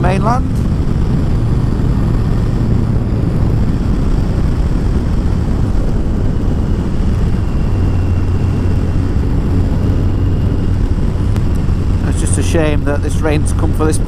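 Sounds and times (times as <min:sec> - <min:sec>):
motorcycle engine hum: 0:00.0 - 0:14.0
wind rush: 0:00.0 - 0:14.0.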